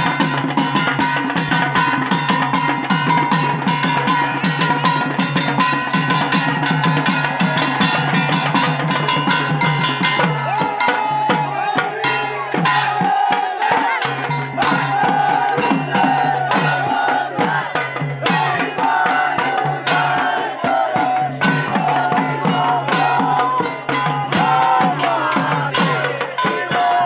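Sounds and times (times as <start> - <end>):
barrel drum beat: 0.0 - 27.0.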